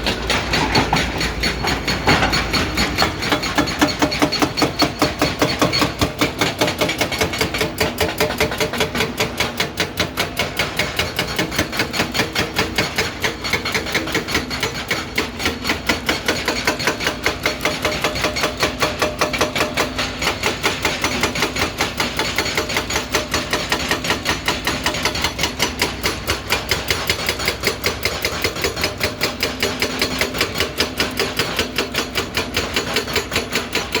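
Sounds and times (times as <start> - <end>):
excavator engine running: 0.0 - 34.0
hydraulic breaker hammering: 0.0 - 34.0.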